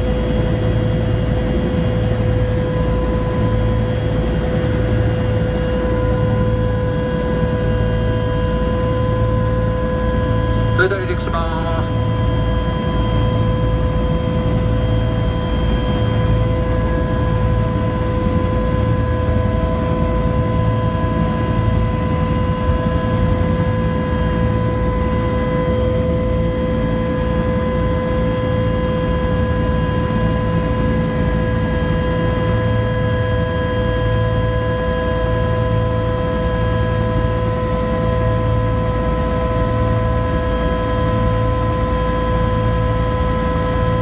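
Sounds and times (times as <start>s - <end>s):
helicopter engine whine: 0.0s - 44.0s
helicopter rotor throb: 0.0s - 44.0s.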